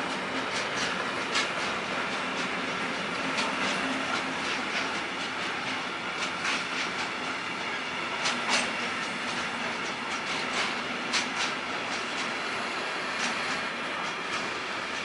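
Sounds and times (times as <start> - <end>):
train wheel clicks: 0.0 - 15.0
train wheels rolling on rail: 0.0 - 15.0.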